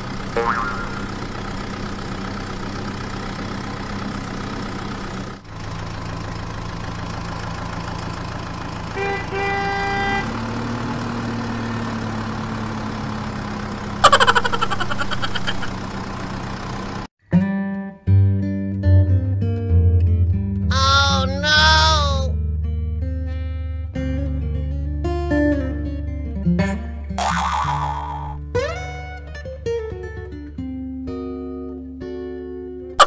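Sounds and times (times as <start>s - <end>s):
vehicle engine hum: 0.0s - 17.1s, 19.8s - 30.6s.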